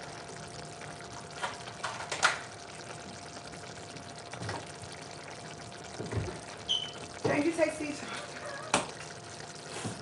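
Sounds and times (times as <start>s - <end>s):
chili simmering hiss: 0.0s - 10.0s
bubbling pops: 0.2s - 7.5s, 8.3s - 10.0s.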